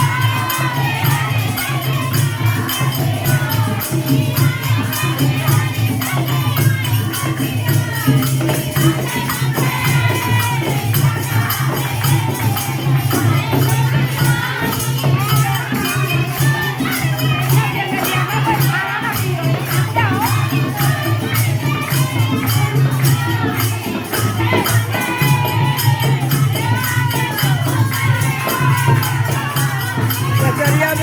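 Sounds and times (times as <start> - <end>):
fast percussion beat: 0.0 - 31.0
voices singing: 0.0 - 31.0.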